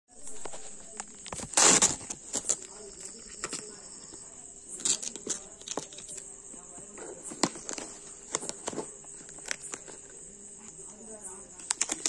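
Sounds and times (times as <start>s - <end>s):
cardboard box and tape crackling: 0.2s - 10.9s, 11.5s - 12.0s.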